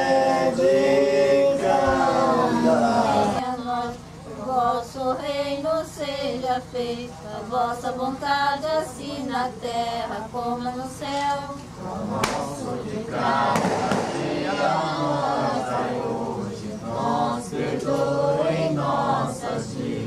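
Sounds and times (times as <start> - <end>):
group singing a cappella: 0.0 - 20.0.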